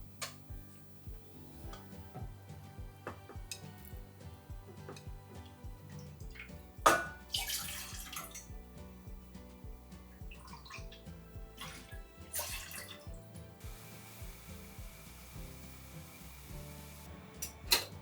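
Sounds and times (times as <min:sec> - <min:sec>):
soft background music: 0:00.0 - 0:18.0
water running and splashing: 0:00.0 - 0:18.0.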